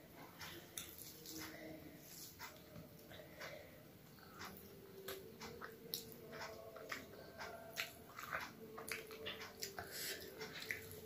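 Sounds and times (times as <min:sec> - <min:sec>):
child chewing softly: 0:00.0 - 0:11.0.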